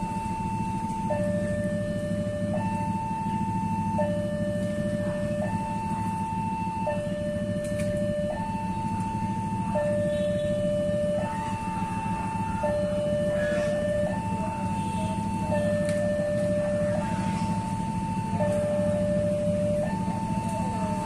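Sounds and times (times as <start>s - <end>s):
level crossing alarm two-tone: 0.0s - 21.0s.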